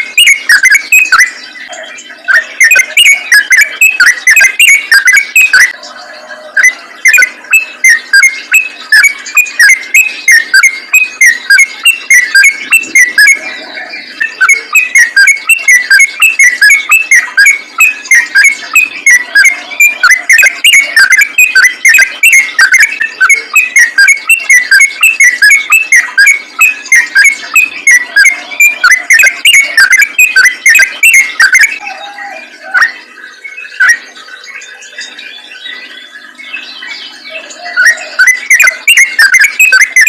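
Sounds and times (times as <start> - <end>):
bird singing chattering notes: 0.0 - 40.0.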